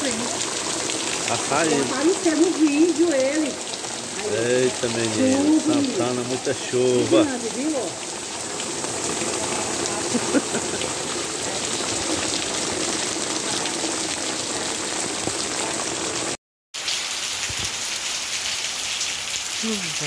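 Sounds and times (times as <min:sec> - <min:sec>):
heavy rain on street and roofs: 0:00.0 - 0:20.0.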